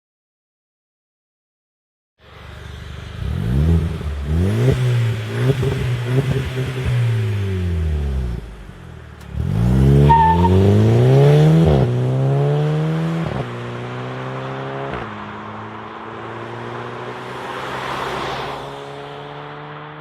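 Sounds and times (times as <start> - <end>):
car accelerating through gears: 3.2 - 8.4, 9.2 - 20.0.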